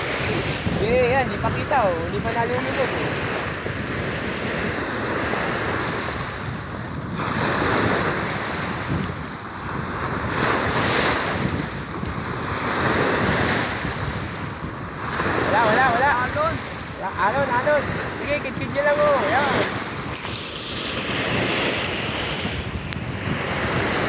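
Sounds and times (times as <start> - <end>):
lake waves splashing: 0.0 - 24.0
wind buffeting microphone: 0.0 - 24.0.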